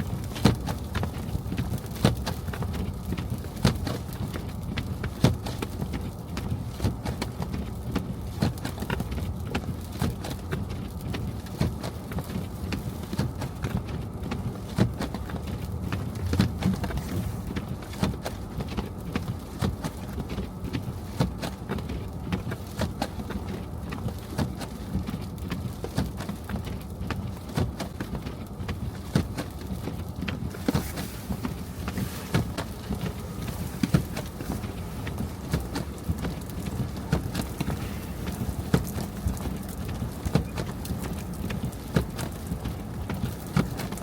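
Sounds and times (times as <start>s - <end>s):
car road rumble on snow: 0.0s - 44.0s.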